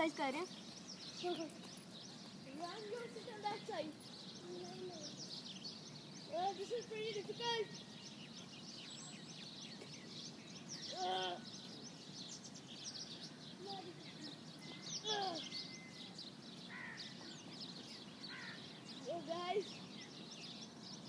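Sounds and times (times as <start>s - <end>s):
harsh bird calls: 0.0s - 21.0s
small birds chirping: 0.0s - 21.0s.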